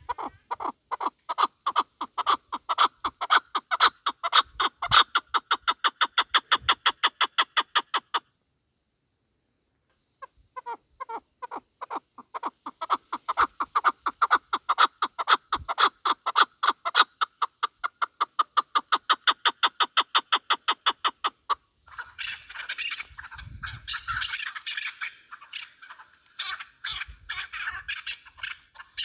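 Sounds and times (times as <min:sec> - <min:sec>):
partridge clucking call: 0:00.0 - 0:08.3, 0:10.2 - 0:29.0.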